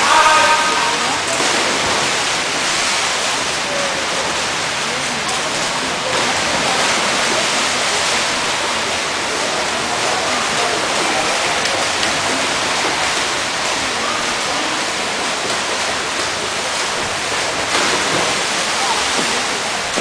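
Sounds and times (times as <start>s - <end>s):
faint voices: 0.0s - 20.0s
swimmers splashing: 0.0s - 20.0s.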